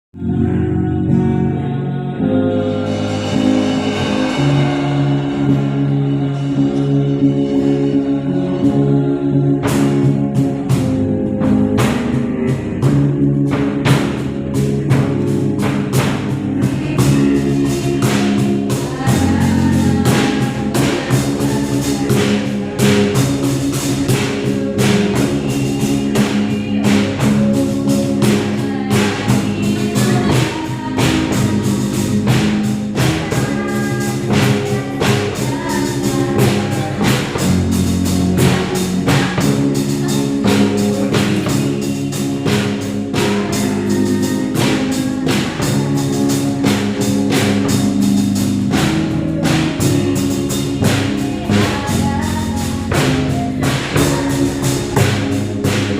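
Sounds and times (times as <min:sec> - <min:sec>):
band playing gospel song: 0:00.1 - 0:55.9
drums steady beat: 0:00.1 - 0:55.9
person singing: 0:00.1 - 0:55.9.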